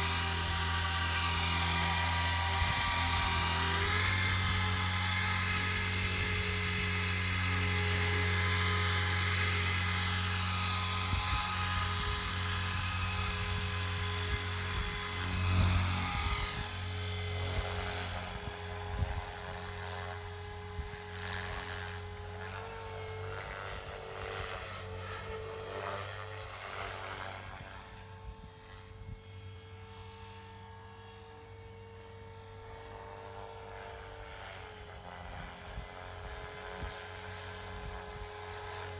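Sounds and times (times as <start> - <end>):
model helicopter rotor and motor whine: 0.0 - 38.9.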